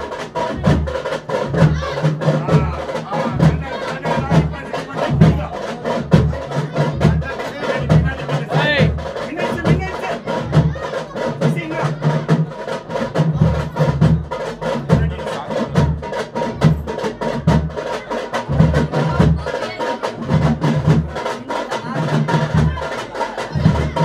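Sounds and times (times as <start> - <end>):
fast drumming: 0.0 - 24.0.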